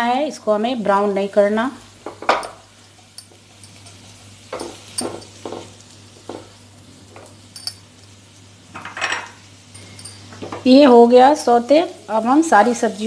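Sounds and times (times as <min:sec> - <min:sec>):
garlic sizzling in butter: 0:00.0 - 0:13.0.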